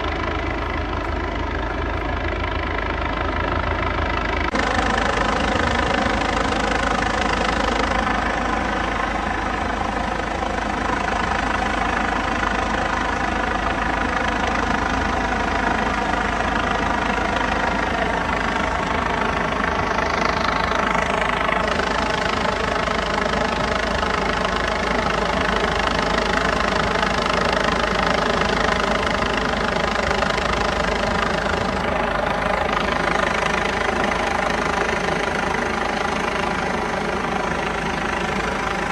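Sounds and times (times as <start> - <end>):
helicopter turbine and rotor drone: 0.0 - 38.9.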